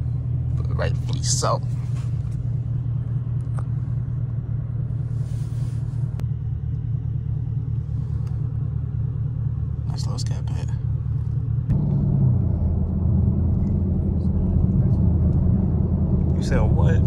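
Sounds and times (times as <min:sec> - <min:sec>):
car engine droning: 0:00.0 - 0:17.0
road noise: 0:00.0 - 0:17.0.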